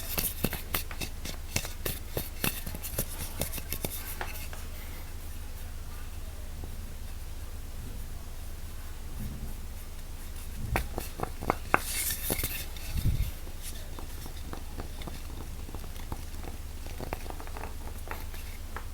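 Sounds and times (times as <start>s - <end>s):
low steady hum: 0.0s - 18.9s.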